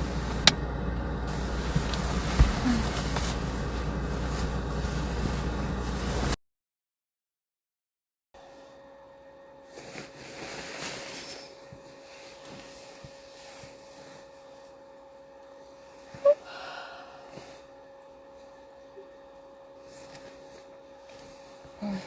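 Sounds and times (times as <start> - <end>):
faint steady hum: 0.0 - 6.4, 8.7 - 22.0.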